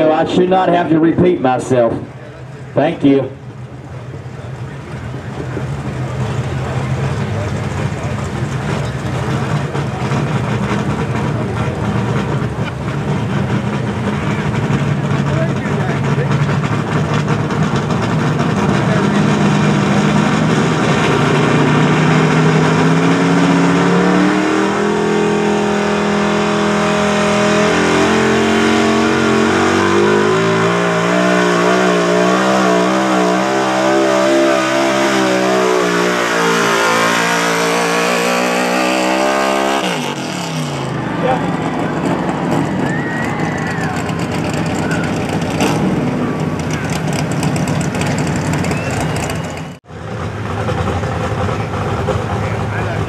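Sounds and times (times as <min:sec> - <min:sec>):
truck engine at full throttle: 0:00.0 - 0:53.0.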